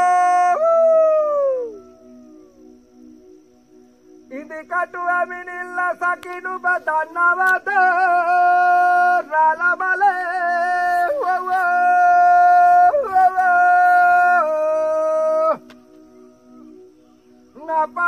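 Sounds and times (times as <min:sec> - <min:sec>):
person chanting: 0:00.0 - 0:02.6, 0:04.3 - 0:16.8, 0:17.5 - 0:18.0.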